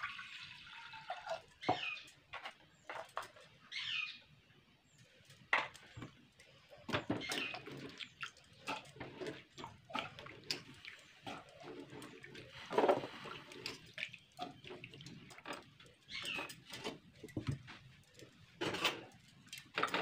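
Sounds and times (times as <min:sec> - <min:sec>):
water sloshing and dripping: 0:00.0 - 0:03.6, 0:05.2 - 0:20.0.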